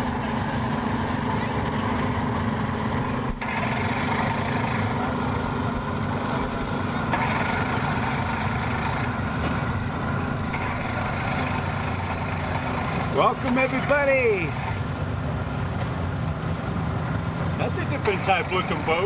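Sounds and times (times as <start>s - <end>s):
boat engines idling: 0.0s - 19.0s.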